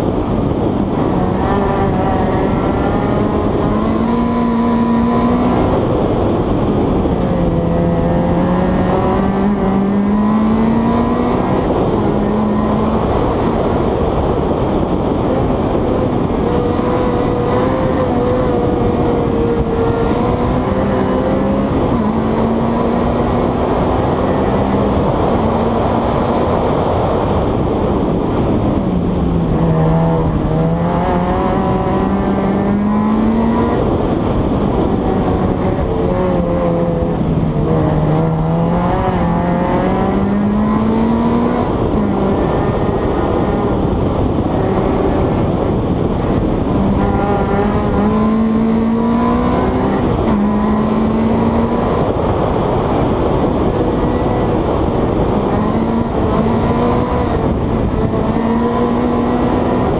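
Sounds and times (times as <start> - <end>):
car engine accelerating: 0.0 - 59.9
wind and road noise: 0.0 - 59.9.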